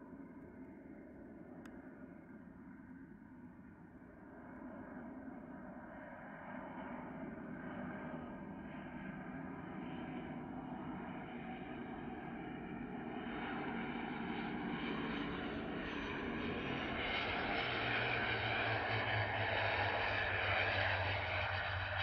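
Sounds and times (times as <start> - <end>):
turboprop plane landing: 0.0 - 22.0.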